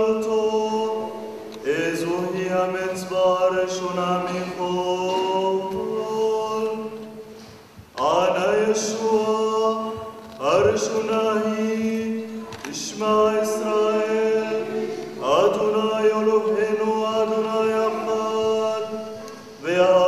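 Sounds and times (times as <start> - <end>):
man chanting: 0.0 - 7.1, 8.0 - 20.0.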